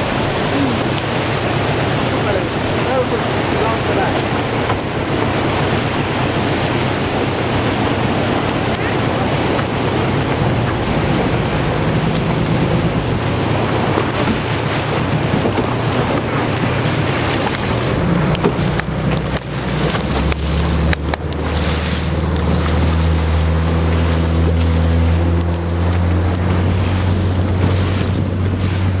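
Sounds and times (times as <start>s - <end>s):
boat engine drone: 0.0s - 29.0s
water slapping a hull: 0.0s - 29.0s
wind buffeting microphone: 0.0s - 29.0s.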